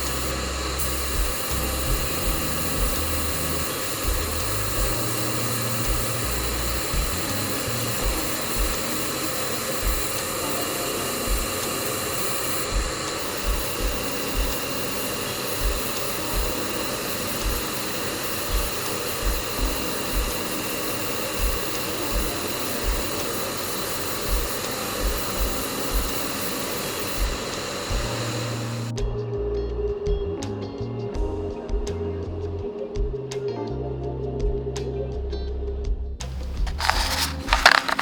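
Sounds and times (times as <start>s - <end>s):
air blowing from painting tool: 0.0s - 28.9s, 36.2s - 38.0s
background music: 0.0s - 35.4s.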